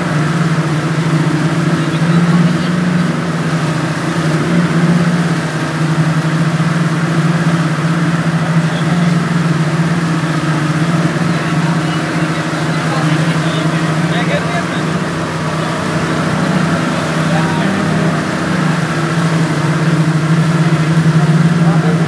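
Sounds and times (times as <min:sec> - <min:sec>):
outboard motors droning: 0:00.0 - 0:22.0
water churning and rushing: 0:00.0 - 0:22.0.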